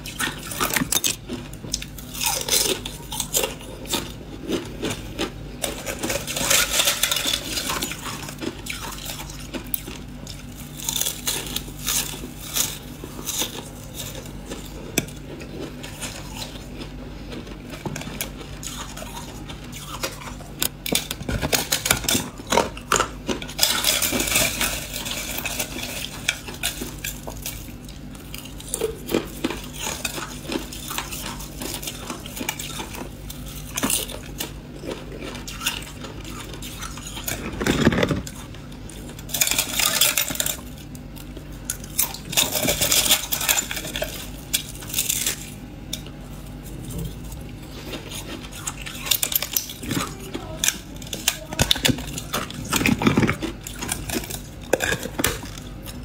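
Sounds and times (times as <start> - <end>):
ice being crunched and chewed: 0.0 - 56.0.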